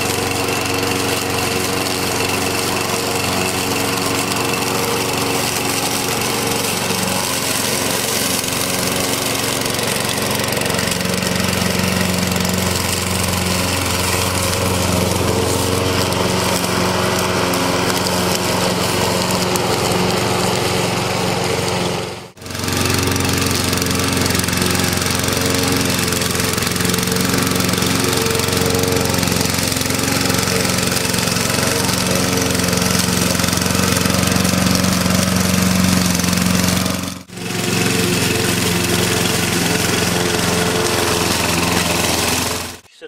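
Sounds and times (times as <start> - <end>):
lawn mower engine cutting grass: 0.0 - 43.0.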